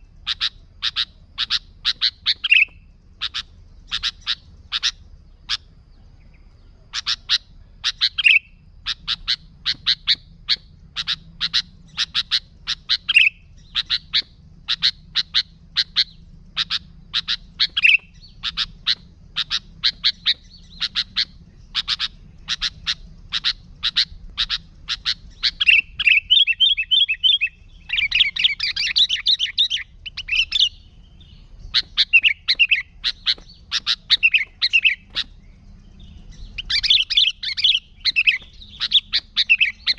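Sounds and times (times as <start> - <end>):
bird calling sharp notes: 0.0 - 39.9.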